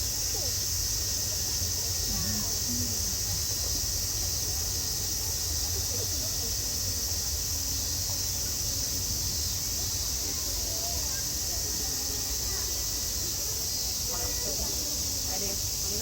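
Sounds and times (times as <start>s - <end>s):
faint distant voices: 0.0s - 16.0s
high-pitched hiss: 0.0s - 16.0s.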